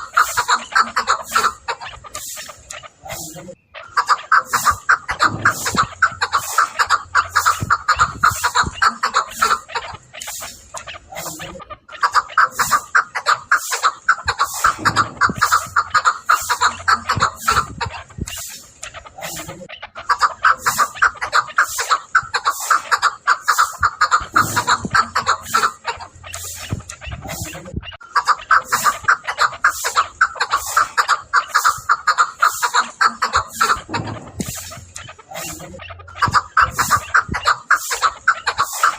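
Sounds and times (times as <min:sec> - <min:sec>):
partridge chuck calls: 0:00.0 - 0:38.9.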